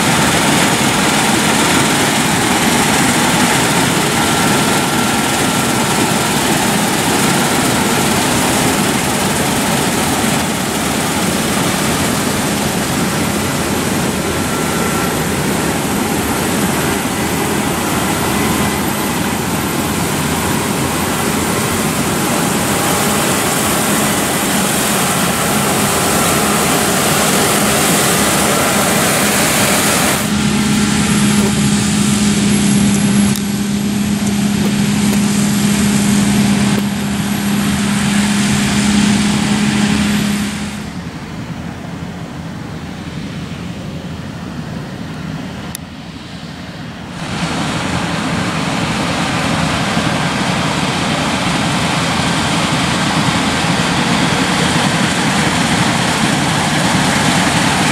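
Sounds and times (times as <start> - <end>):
combine harvester threshing: 0.0 - 45.0, 46.8 - 57.9.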